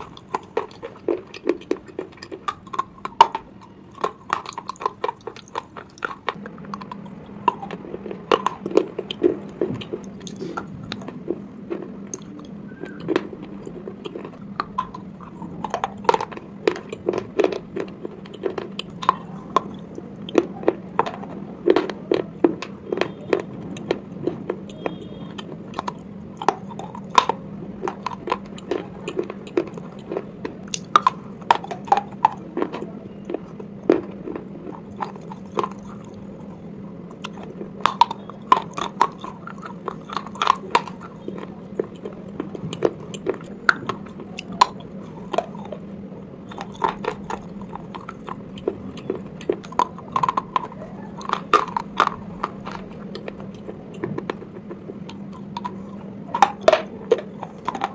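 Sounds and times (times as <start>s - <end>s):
close chewing crunches: 0.0s - 57.9s
low steady hum: 0.0s - 57.9s.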